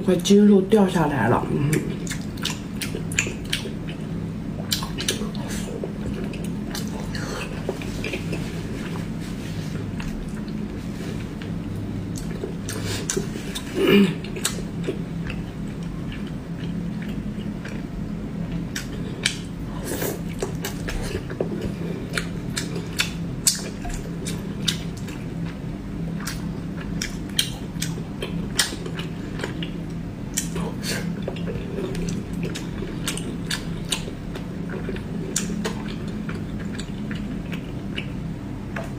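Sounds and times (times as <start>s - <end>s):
steady low hum: 0.0s - 38.9s
crunchy chewing: 1.7s - 17.9s, 18.5s - 38.9s.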